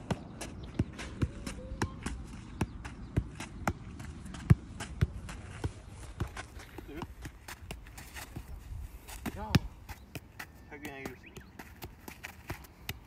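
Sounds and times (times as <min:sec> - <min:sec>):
soccer ball thudding: 0:00.0 - 0:13.0.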